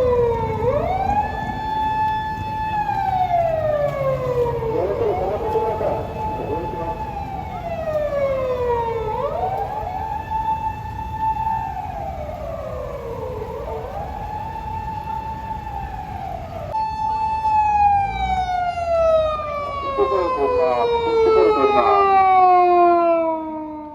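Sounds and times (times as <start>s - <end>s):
police siren wailing: 0.0s - 23.9s.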